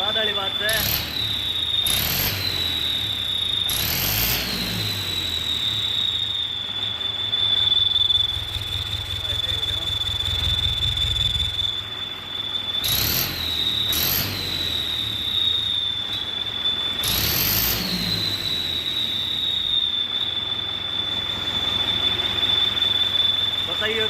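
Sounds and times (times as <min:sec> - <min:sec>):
high-pitched exhaust whistle: 0:00.0 - 0:24.0
tractor engine running: 0:00.0 - 0:24.0.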